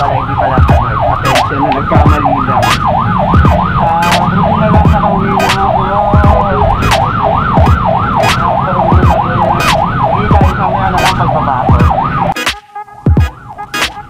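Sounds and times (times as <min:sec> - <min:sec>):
ambulance siren yelping: 0:00.0 - 0:14.0
engine and road rumble: 0:00.0 - 0:14.0.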